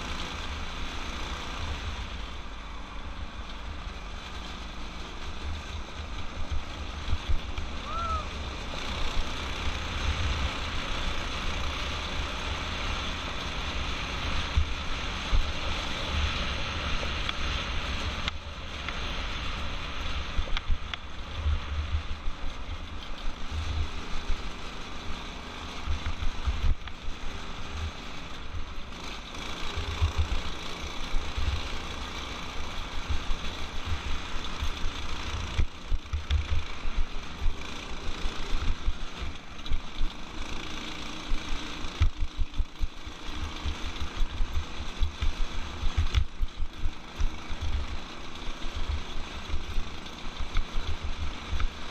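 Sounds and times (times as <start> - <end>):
go-kart engine running: 0.0 - 51.9.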